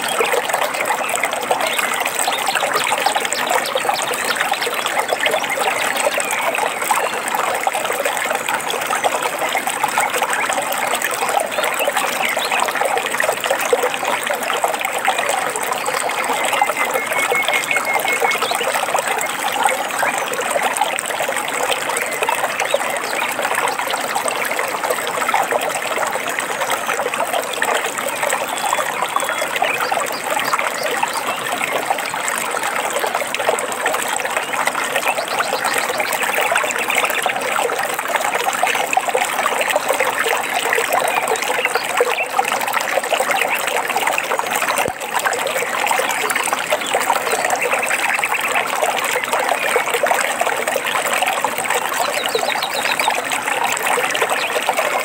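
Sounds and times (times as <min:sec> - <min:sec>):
water trickling and babbling: 0:00.0 - 0:55.0.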